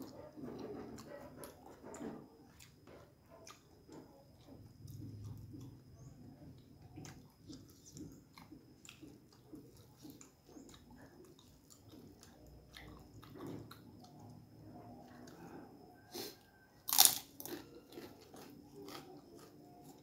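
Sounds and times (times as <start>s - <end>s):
chewing soft food: 0.0s - 20.0s.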